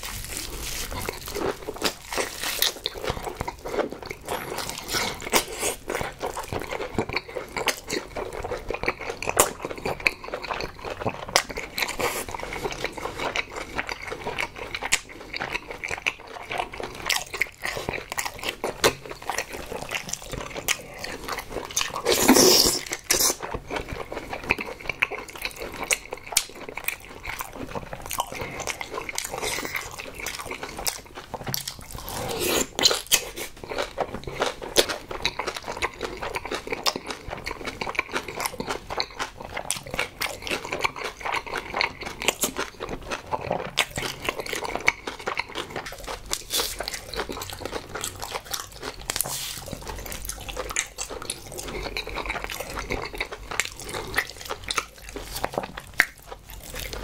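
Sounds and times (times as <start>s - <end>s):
wet smacking and crunching chewing: 0.0s - 57.0s.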